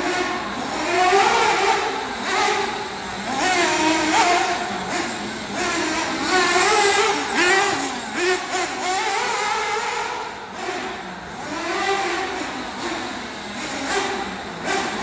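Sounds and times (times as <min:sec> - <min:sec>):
small nitro engines revving: 0:00.0 - 0:15.0.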